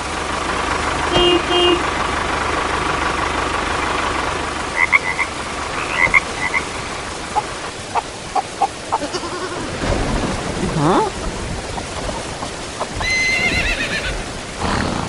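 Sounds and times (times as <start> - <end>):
low engine-like hum: 0.0 - 15.0
frogs croaking: 2.3 - 14.7.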